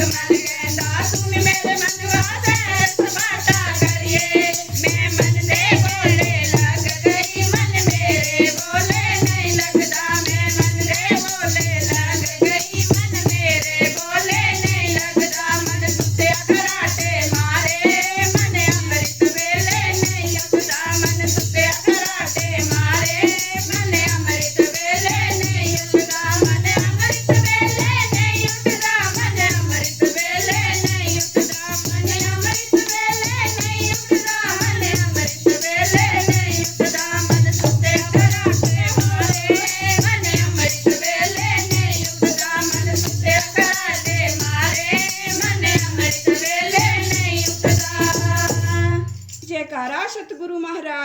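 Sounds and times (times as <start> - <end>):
repeating drum beat: 0.0 - 49.5
devotional music with singing: 0.0 - 50.1
jingling rattle percussion: 0.0 - 50.3.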